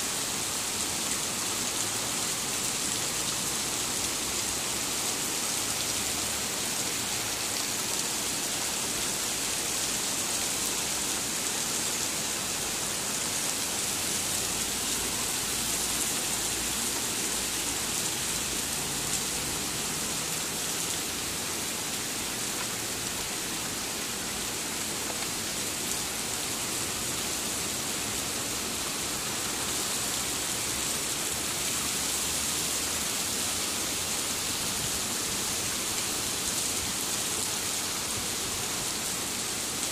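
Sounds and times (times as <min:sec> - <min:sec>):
heavy rain on grass and asphalt: 0:00.0 - 0:39.9.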